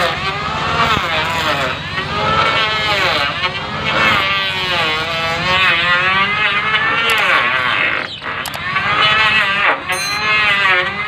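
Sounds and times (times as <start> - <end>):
electric planer shaving wood: 0.0 - 11.0.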